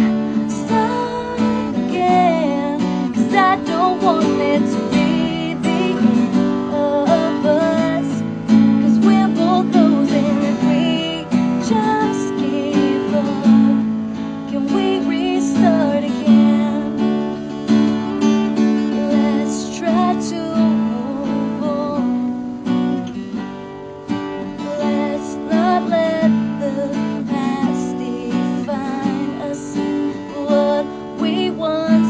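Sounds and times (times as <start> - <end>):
woman singing pop ballad: 0.0 - 17.3, 18.6 - 23.1, 24.4 - 32.0
strummed acoustic guitar: 0.0 - 32.0.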